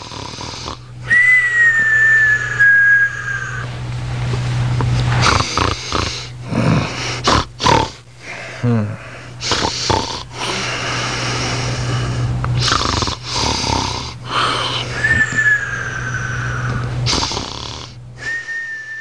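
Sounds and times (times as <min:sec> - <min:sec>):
snoring with whistling: 0:00.0 - 0:03.7, 0:05.2 - 0:08.0, 0:08.9 - 0:19.0
steady low hum: 0:00.0 - 0:19.0.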